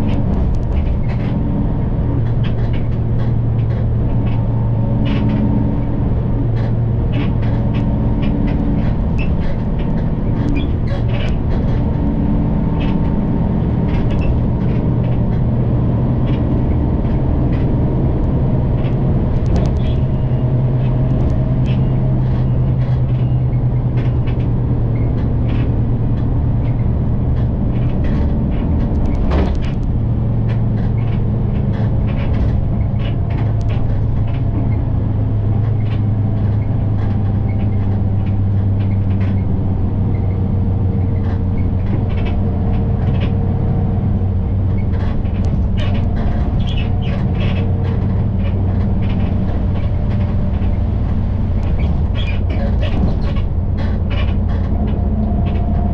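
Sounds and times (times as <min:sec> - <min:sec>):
bus engine drone: 0:00.0 - 0:55.9
road rumble: 0:00.0 - 0:55.9.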